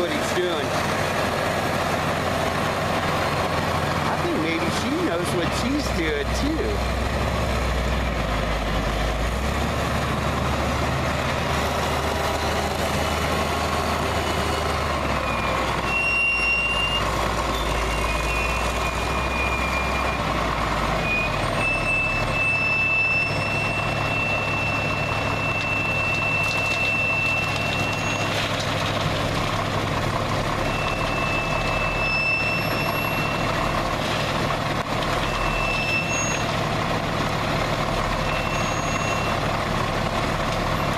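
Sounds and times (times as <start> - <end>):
heavy machinery engines revving: 0.0 - 40.9.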